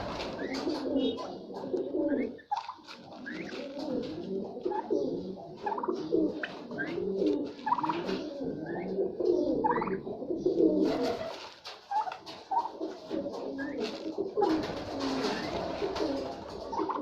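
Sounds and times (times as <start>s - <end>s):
birds chirping: 0.0s - 17.0s
birds cooing: 0.0s - 17.0s
rustling: 0.0s - 17.0s.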